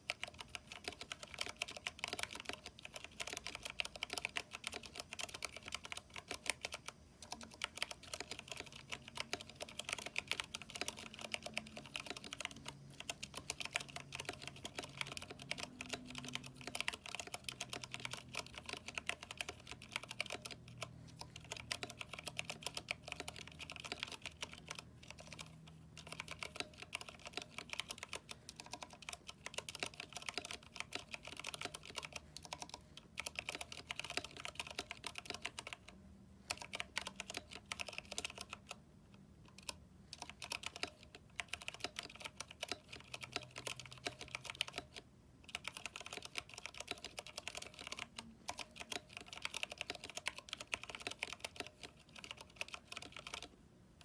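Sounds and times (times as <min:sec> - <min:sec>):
mechanical keyboard typing: 0:00.0 - 0:38.8, 0:39.4 - 0:53.6.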